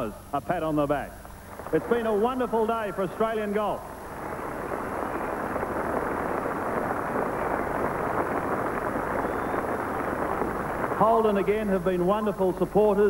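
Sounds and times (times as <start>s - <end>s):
crowd applauding: 1.3s - 13.0s.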